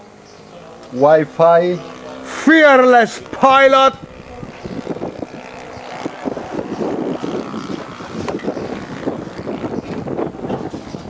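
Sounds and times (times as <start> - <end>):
wind buffeting microphone: 0.8 - 11.0.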